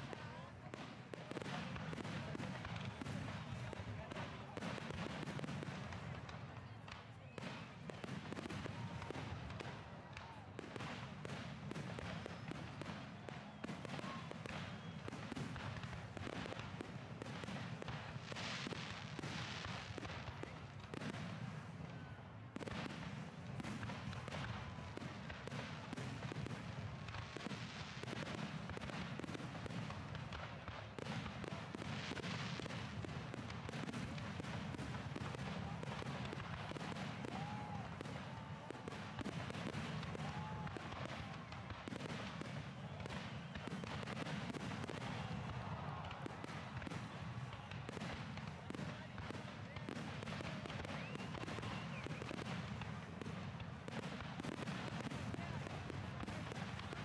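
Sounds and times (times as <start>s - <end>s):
fireworks bangs and crackle: 0.0s - 57.0s.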